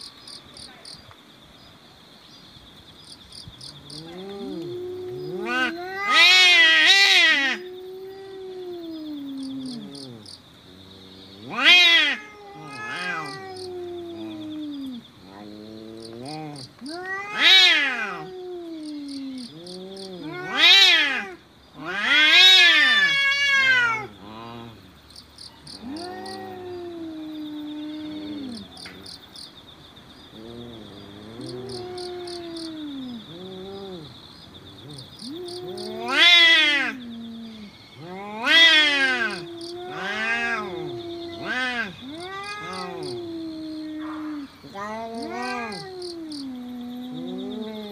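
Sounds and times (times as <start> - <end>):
cats yowling: 3.8 - 24.8, 25.5 - 29.0, 30.3 - 47.9.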